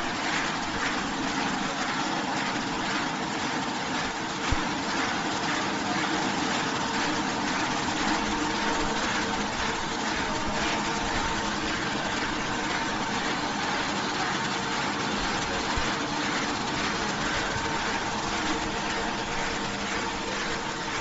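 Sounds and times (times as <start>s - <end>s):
production line machinery hum: 0.0s - 21.0s.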